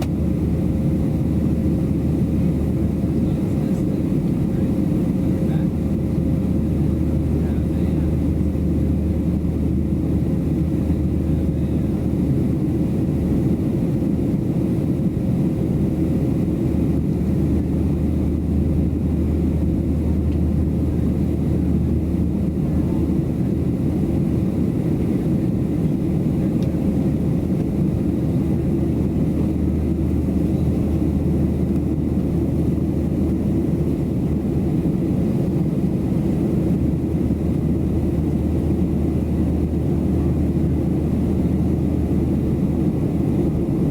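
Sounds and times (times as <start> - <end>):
airplane cabin roar: 0.0 - 43.9.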